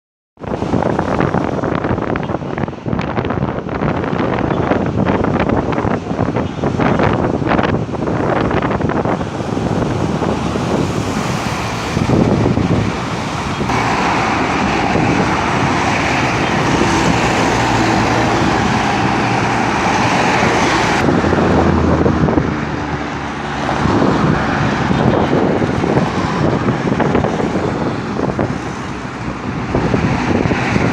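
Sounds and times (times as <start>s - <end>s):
cars passing: 0.4s - 30.9s.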